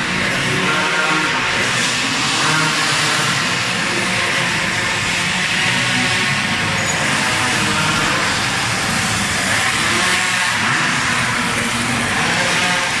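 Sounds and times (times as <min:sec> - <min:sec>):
small two-stroke engines droning: 0:00.0 - 0:13.0.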